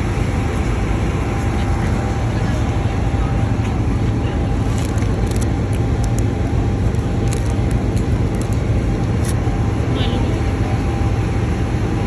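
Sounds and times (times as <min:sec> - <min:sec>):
faint constant hum: 0:00.0 - 0:12.0
low engine rumble: 0:00.0 - 0:12.0.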